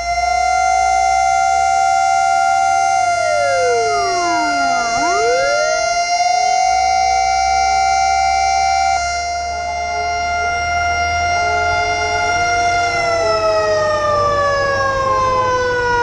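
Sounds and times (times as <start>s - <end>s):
steady high siren: 0.0s - 16.0s
sweeping siren: 0.0s - 16.0s.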